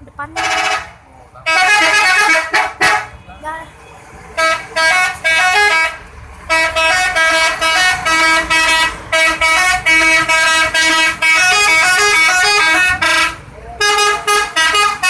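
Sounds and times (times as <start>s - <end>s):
multi-tone musical air horn: 0.4s - 0.9s, 1.5s - 3.1s, 4.4s - 15.0s.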